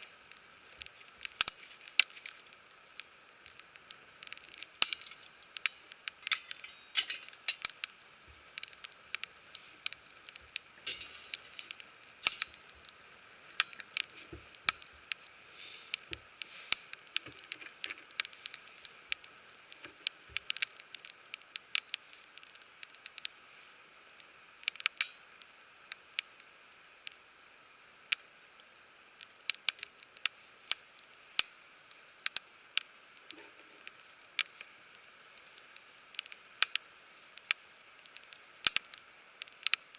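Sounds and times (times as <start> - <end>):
faint hiss: 0.0 - 39.9
wood fire crackling and popping: 0.0 - 39.9.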